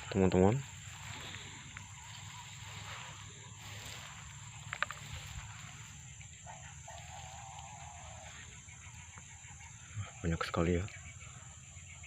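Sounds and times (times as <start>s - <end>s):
birds chirping: 0.0s - 12.0s
high-pitched insect drone: 0.0s - 12.0s.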